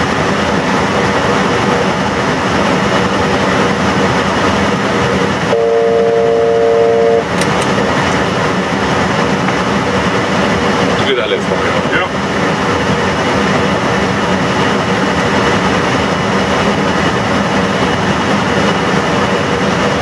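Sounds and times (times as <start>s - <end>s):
cockpit airflow and engine noise: 0.0s - 20.0s.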